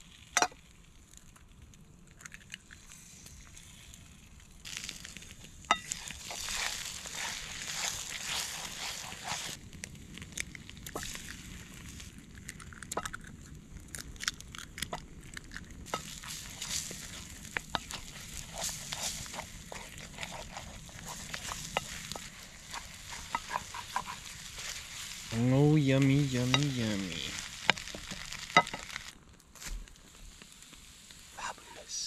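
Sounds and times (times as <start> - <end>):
food sizzling in a pan: 2.7 - 13.5, 14.8 - 32.0.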